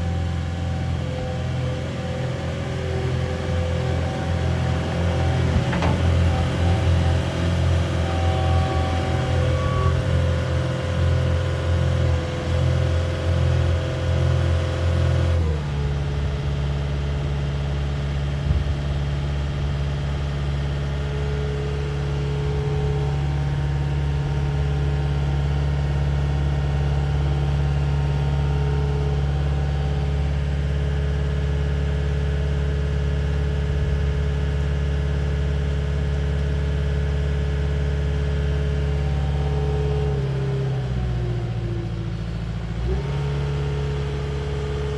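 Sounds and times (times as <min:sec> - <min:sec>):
diesel loader engine running: 0:00.0 - 0:44.9.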